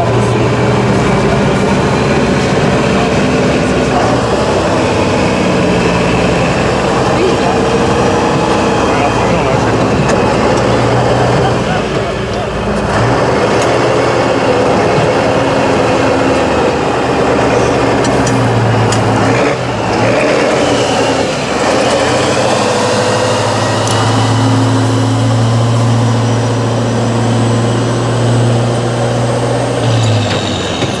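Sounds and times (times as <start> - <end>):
truck diesel engine under load: 0.0 - 31.0.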